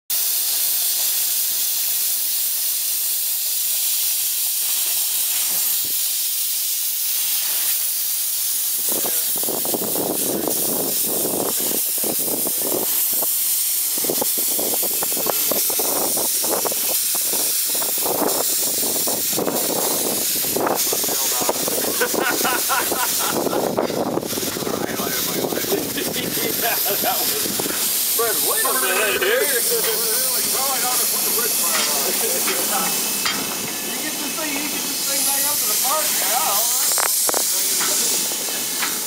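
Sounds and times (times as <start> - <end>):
steam blowing from cylinder cocks: 0.1 - 39.0
steam locomotive hissing: 0.1 - 39.0.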